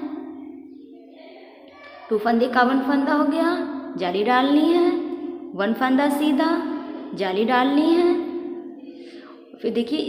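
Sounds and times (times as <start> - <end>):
woman speaking: 1.2 - 10.0.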